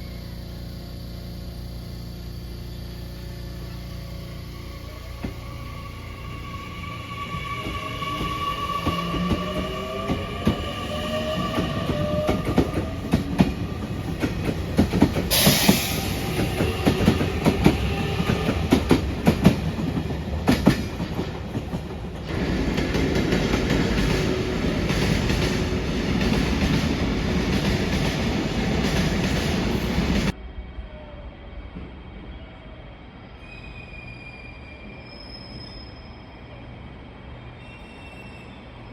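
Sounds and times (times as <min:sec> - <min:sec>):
train running on rails: 0:00.0 - 0:38.9.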